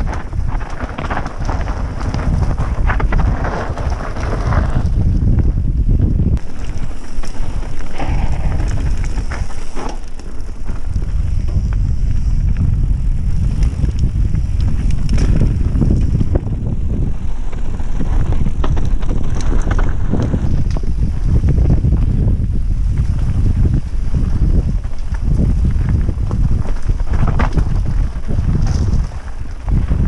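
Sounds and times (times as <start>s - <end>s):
bike clicks and rattles: 0.0s - 30.0s
tyre noise on dirt: 0.0s - 30.0s
wind rumble on microphone: 0.0s - 30.0s.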